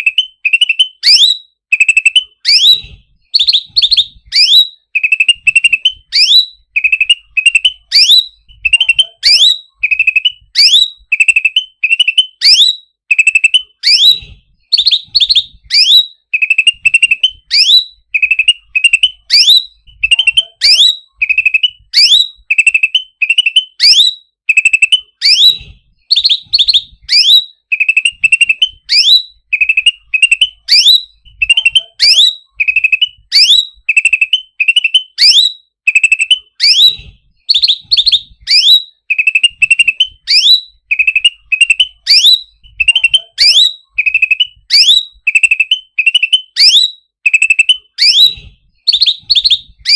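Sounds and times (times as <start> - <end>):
songbird calling: 0.0 - 49.9.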